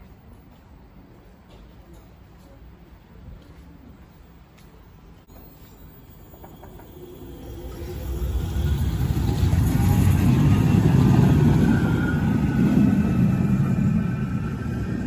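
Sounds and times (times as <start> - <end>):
tram passing with low rumble: 0.0 - 15.0.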